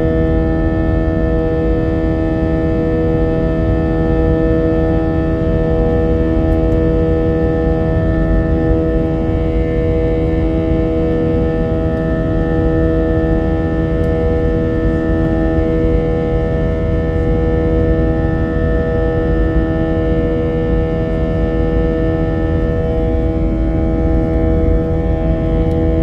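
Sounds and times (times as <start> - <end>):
jet engines rumbling and whining: 0.0 - 26.0.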